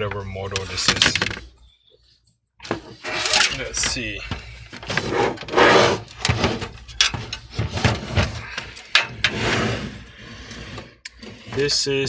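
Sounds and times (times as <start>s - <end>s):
computer case scraping and rustling: 0.6s - 1.4s, 2.6s - 12.0s.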